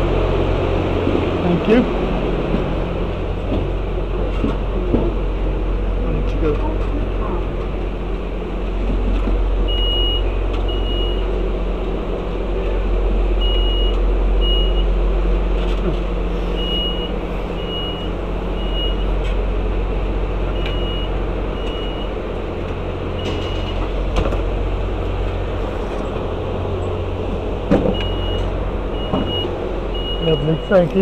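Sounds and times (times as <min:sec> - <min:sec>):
low hum of standing train: 0:00.0 - 0:31.0.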